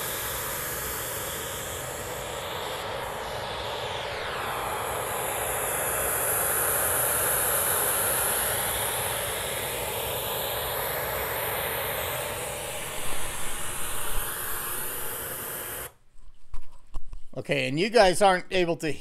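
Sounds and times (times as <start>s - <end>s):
white noise through speakers: 0.0s - 16.0s.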